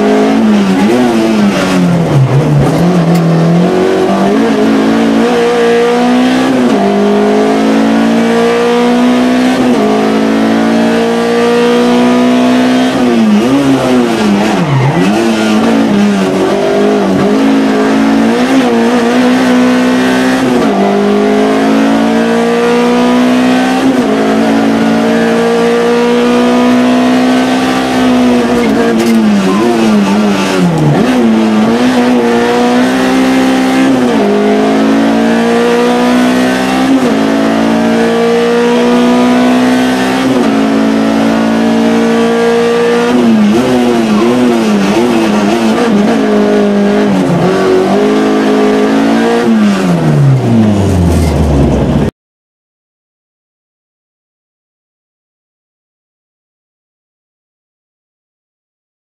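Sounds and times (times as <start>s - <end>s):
car engine revving inside cabin: 0.0s - 52.1s.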